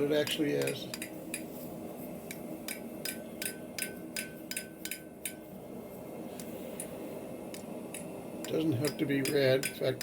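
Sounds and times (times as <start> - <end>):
hammer tapping on anvil: 0.2 - 1.5, 2.3 - 5.5, 6.4 - 10.0.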